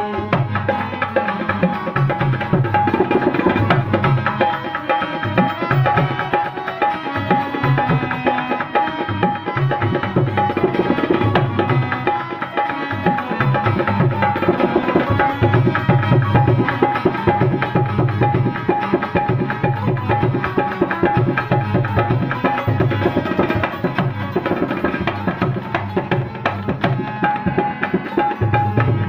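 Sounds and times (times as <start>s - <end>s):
hand drum beat: 0.3s - 29.0s.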